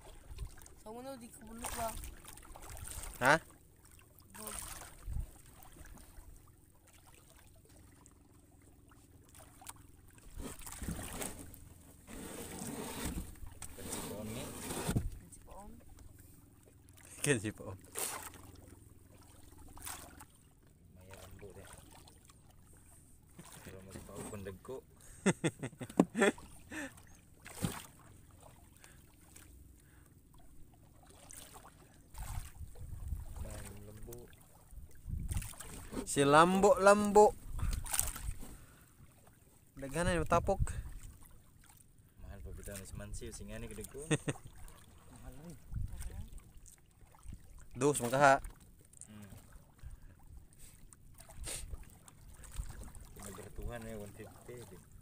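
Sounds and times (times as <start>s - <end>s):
water lapping against boat hull: 0.0s - 55.0s.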